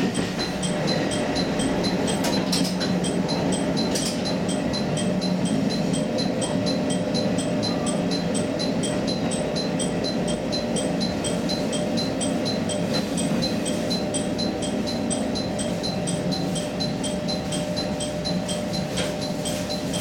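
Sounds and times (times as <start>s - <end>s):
rapid high-pitched chiming tick: 0.1s - 20.0s.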